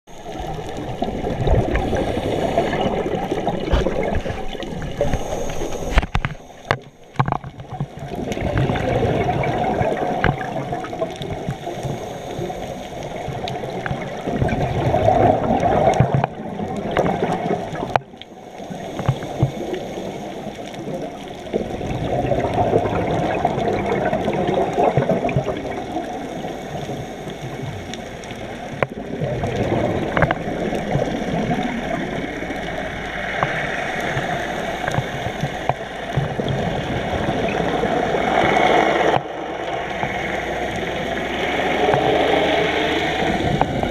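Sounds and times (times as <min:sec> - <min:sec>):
underwater regulator bubbles: 0:00.1 - 0:43.9.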